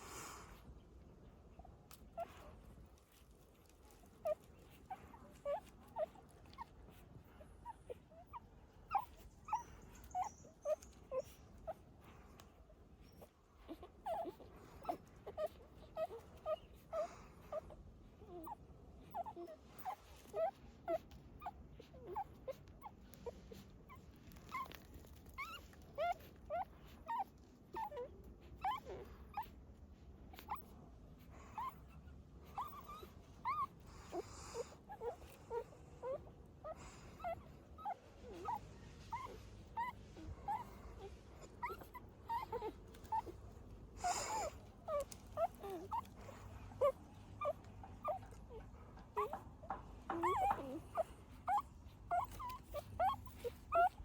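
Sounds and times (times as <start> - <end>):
puppies whimpering: 1.5 - 54.0.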